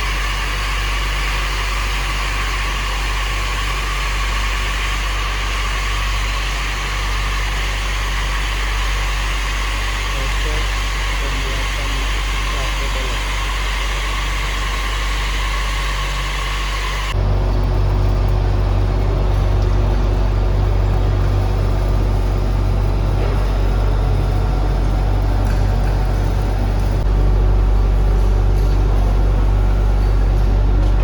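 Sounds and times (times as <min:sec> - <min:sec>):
deep loud machinery rumble: 0:00.0 - 0:31.0
heavy machinery drone: 0:00.0 - 0:31.0.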